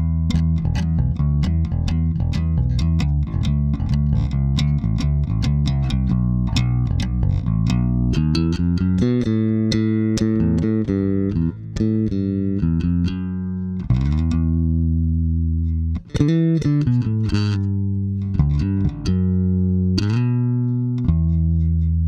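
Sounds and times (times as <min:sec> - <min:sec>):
solo bass guitar: 0:00.0 - 0:22.0.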